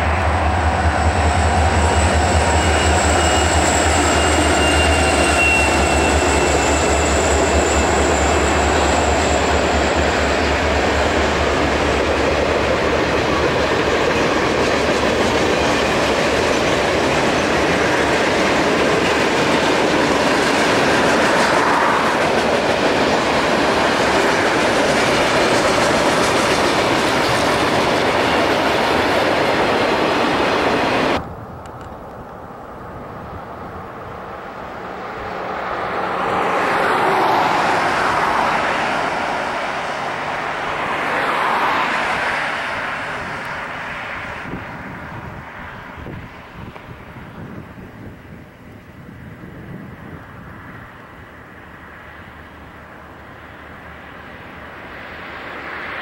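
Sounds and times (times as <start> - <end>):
distant train rumble: 0.0 - 56.0
freight train wheels on rails: 0.0 - 56.0.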